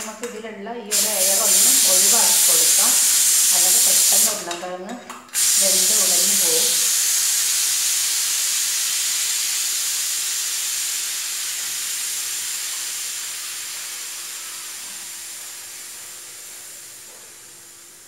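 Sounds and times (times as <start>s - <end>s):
steam hissing from pressure cooker: 0.9s - 4.5s, 5.3s - 18.0s.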